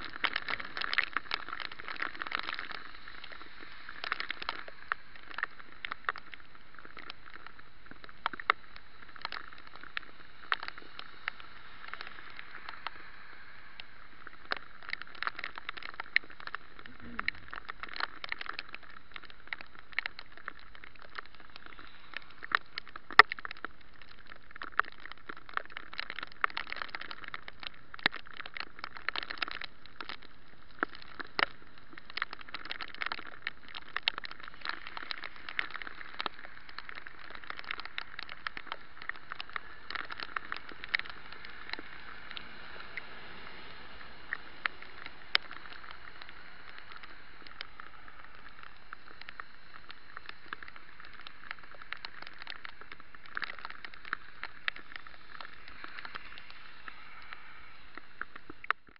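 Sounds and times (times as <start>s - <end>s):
bicycle tyres hissing in rain: 0.0s - 58.9s.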